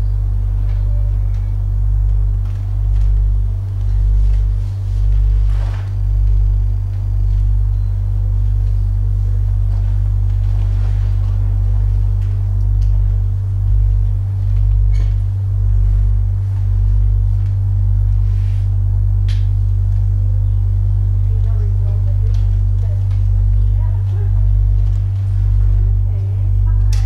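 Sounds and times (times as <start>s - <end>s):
low sine wave oscillator drone: 0.0s - 27.0s.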